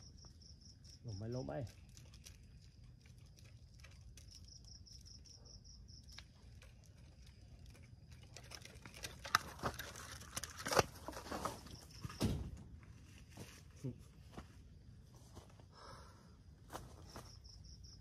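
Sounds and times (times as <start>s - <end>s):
high insect trill: 0.0s - 10.3s, 11.3s - 18.0s.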